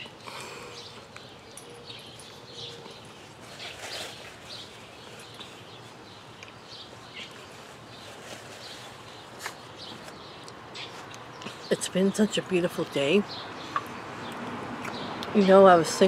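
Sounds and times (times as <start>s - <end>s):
outdoor background noise: 0.0s - 16.0s
small birds chirping: 0.0s - 16.0s.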